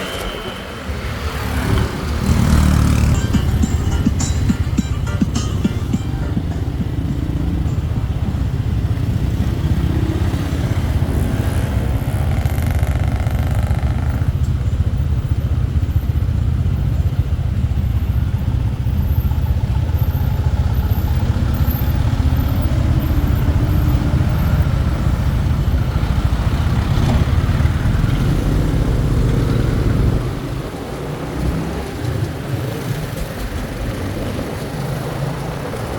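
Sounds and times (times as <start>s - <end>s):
motorbike engine rumbling: 0.7s - 35.9s.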